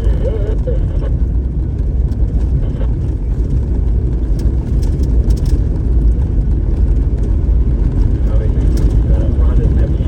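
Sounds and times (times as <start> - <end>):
vehicle engine and tyres rumbling: 0.0 - 10.0.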